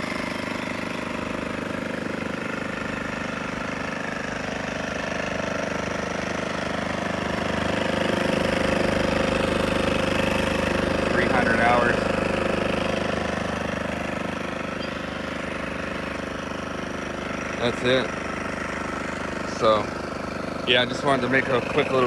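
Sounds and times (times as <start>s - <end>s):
generator engine idling: 0.0s - 22.0s.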